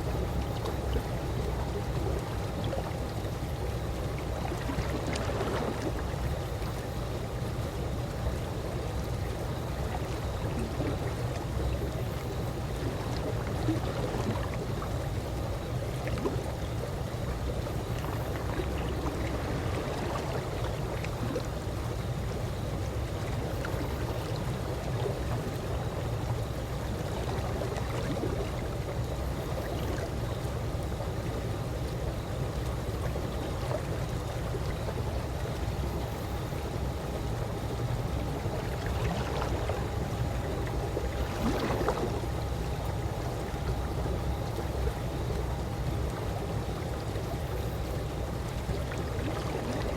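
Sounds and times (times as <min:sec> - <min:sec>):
pool water gurgling gently: 0:00.0 - 0:49.9.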